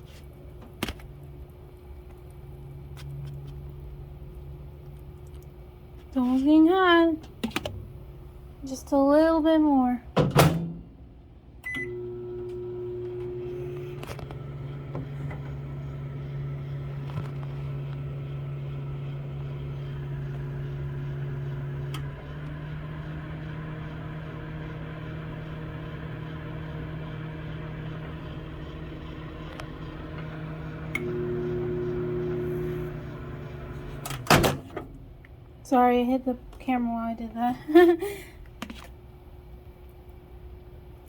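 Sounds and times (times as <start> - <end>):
microwave oven humming: 0.1 - 37.2.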